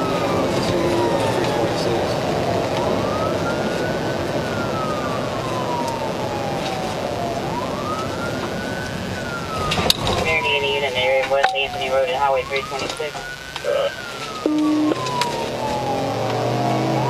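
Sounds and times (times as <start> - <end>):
police siren wailing: 0.0 - 17.0
road and engine noise: 0.0 - 17.0.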